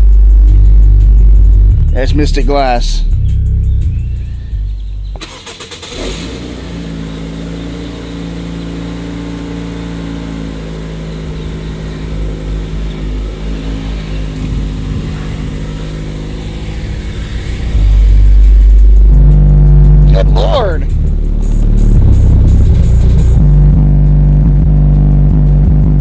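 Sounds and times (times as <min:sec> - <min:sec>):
bass-heavy music through subwoofer: 0:00.0 - 0:05.2, 0:06.0 - 0:26.0.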